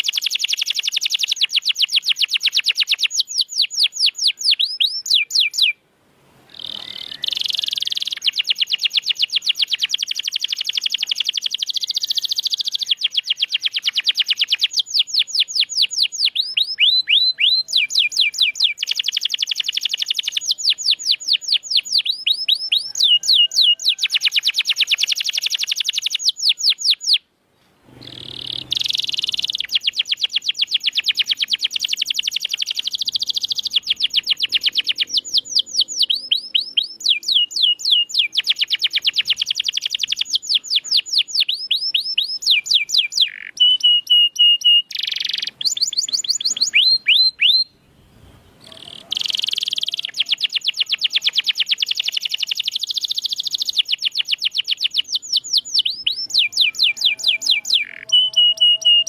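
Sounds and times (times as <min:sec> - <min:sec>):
canary singing trills: 0:00.0 - 0:05.8, 0:06.5 - 0:27.2, 0:28.0 - 0:47.8, 0:48.6 - 0:59.0.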